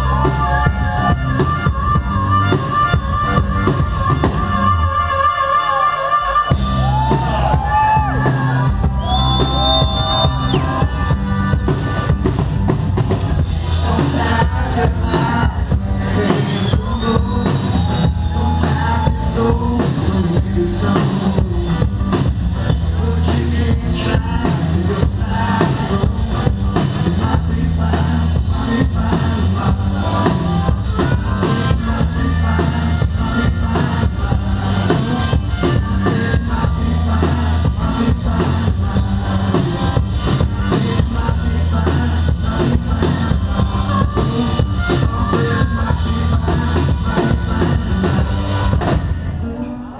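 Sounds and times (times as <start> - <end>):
drum kit groove: 0.0 - 4.8, 6.5 - 49.5
bass line: 0.0 - 49.9
live band playing instrumental: 0.0 - 49.9.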